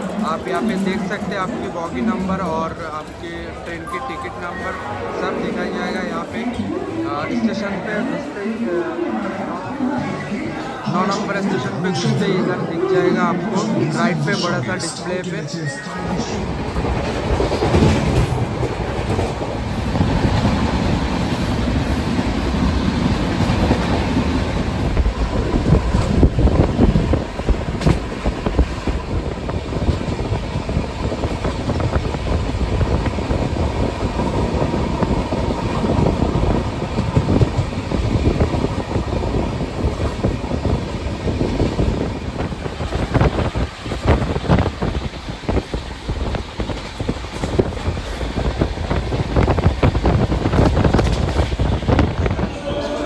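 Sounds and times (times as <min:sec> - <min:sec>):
train wheels rumbling on rails: 0:00.0 - 0:15.3, 0:15.9 - 0:53.0.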